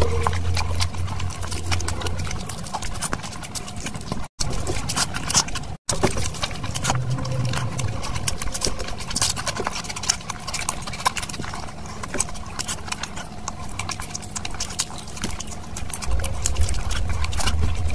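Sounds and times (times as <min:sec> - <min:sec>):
wet chewing and mouth smacks: 0:00.0 - 0:17.9.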